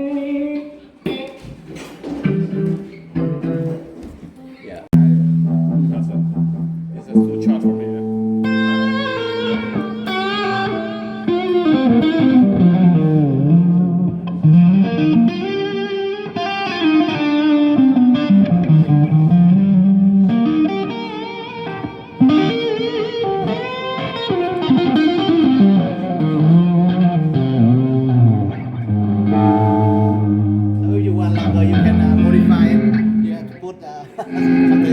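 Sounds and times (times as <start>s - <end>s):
electric guitar pitch bends: 5.0s - 34.9s.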